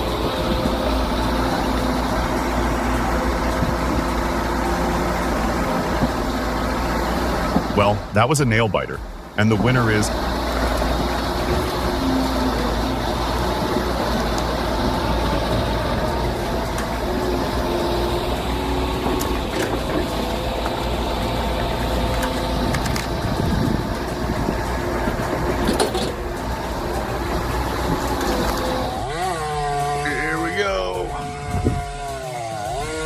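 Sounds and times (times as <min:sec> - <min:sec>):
large engine running: 0:00.0 - 0:33.0.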